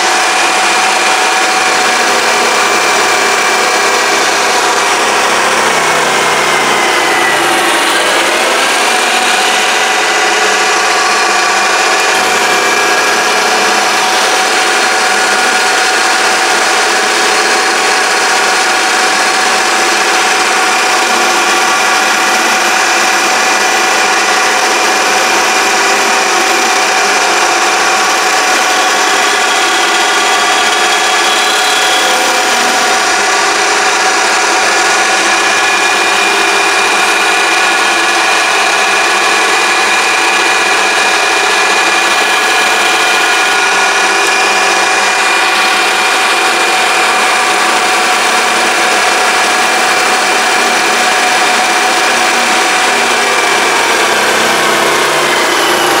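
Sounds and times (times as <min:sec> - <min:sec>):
lathe motor whine: 0:00.0 - 0:56.0.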